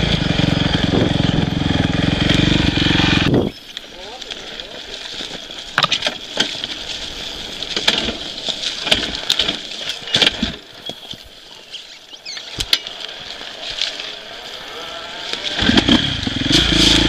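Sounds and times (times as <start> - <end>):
dirt bike engine at low revs: 0.0 - 17.0
bike knocking over sticks: 0.9 - 14.2, 15.2 - 17.0.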